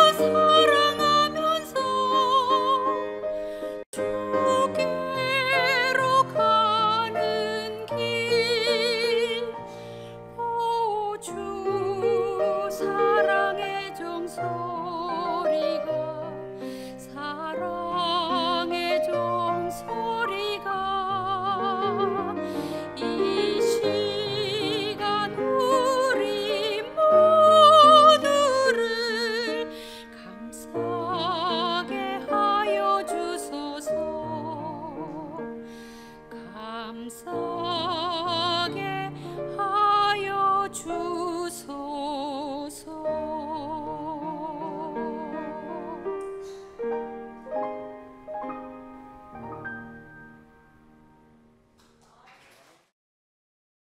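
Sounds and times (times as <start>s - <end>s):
soprano singing with vibrato: 0.0s - 3.2s, 4.0s - 35.6s, 36.3s - 46.6s
piano accompaniment: 0.0s - 52.0s.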